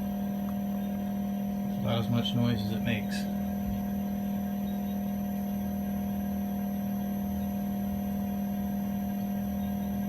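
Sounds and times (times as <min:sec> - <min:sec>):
heat pump unit humming: 0:00.0 - 0:10.0.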